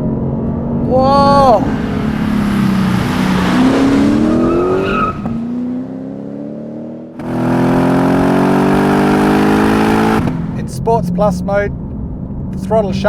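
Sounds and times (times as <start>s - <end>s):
car engine accelerating hard: 0.0s - 12.6s.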